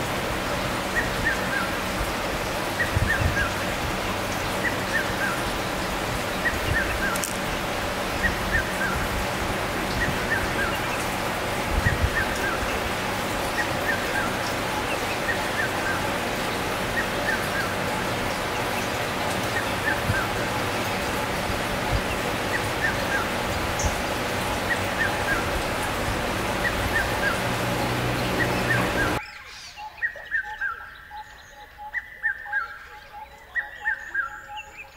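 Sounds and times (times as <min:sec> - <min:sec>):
small birds chirping: 0:00.7 - 0:34.9.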